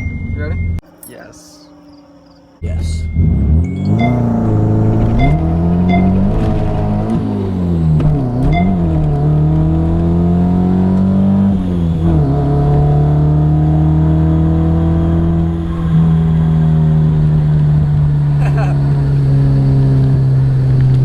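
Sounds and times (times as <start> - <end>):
car engine revving: 1.4 - 21.0.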